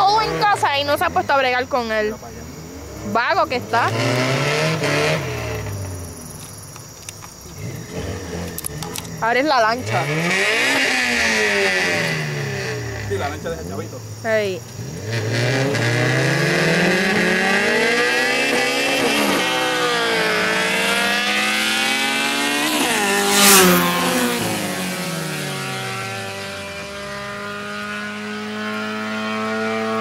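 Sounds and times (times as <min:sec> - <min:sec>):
racing car engines at full throttle: 0:00.0 - 0:30.0.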